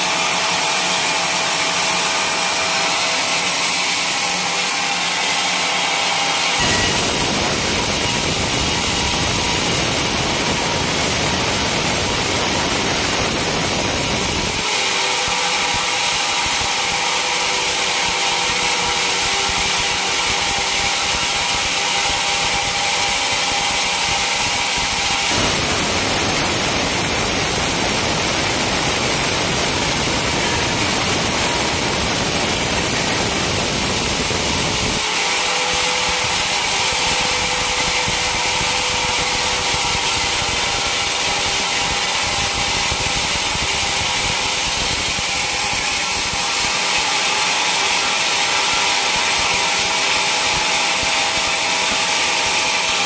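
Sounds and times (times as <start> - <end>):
sawmill saw cutting log: 0.0 - 53.0.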